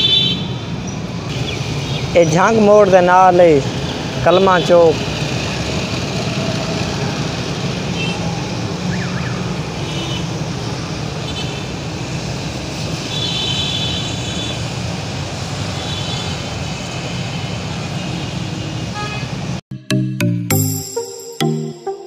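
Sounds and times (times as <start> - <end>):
road traffic with motorcycles and cars: 0.0 - 19.7.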